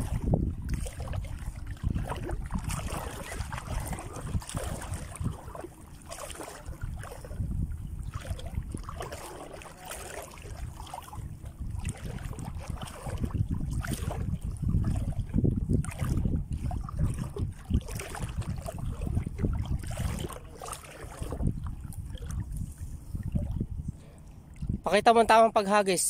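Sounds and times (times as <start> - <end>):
wind buffeting microphone: 0.0 - 25.4.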